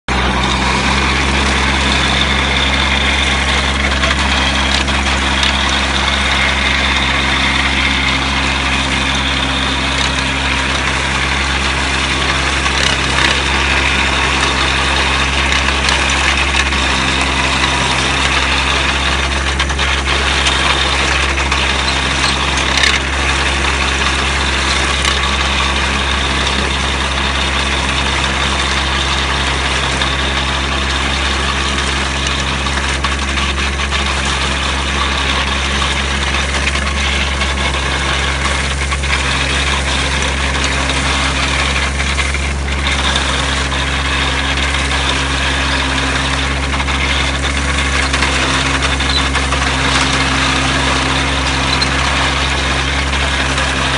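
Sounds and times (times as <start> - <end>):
tractor engine running under load: 0.0 - 53.9
chopper blades churning stubble: 0.1 - 53.9.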